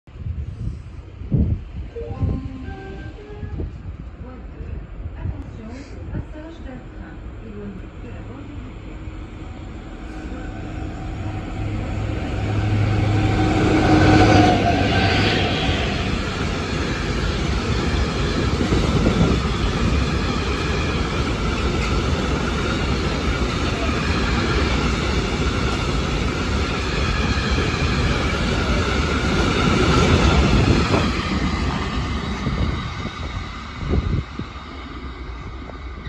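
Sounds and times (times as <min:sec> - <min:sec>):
freight train wheels rumbling: 0:00.1 - 0:36.0.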